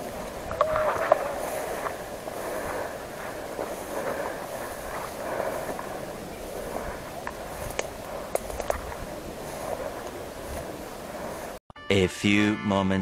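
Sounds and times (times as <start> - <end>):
grass rustling against clothing: 0.0 - 11.6.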